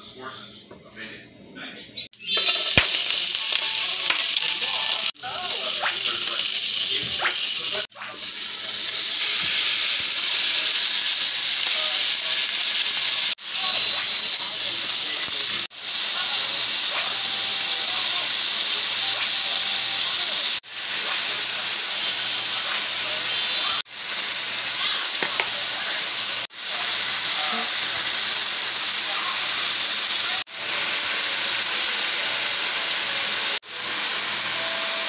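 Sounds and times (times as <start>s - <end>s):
meat sizzling in a pan: 2.3s - 35.0s.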